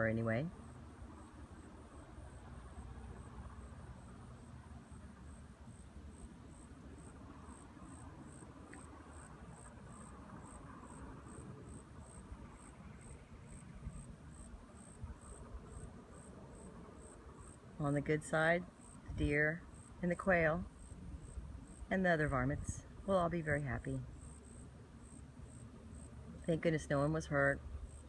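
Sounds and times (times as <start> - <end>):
insect chirping: 0.0 - 17.8, 18.6 - 23.0, 23.8 - 26.9, 27.5 - 28.0.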